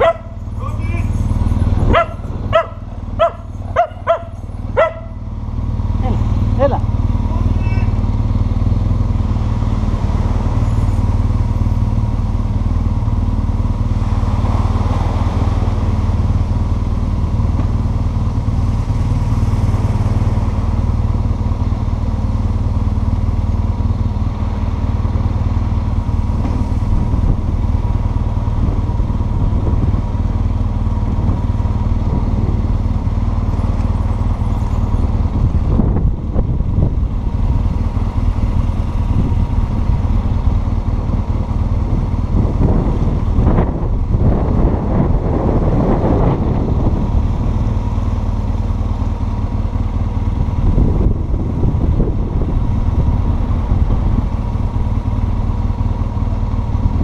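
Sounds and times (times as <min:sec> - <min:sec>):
motorcycle engine low drone: 0:00.0 - 0:57.0.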